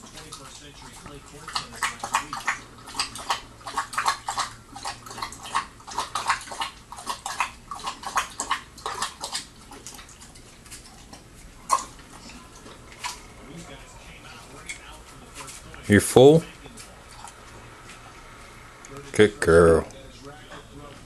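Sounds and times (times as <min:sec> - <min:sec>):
puppy eating from metal bowl: 0:00.0 - 0:21.0.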